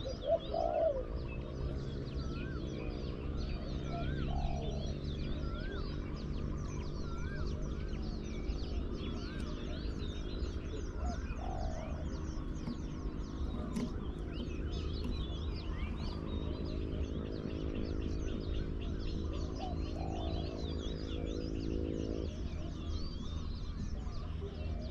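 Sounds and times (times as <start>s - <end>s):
small birds chirping: 0.0s - 24.9s
steady low hum: 0.0s - 24.9s.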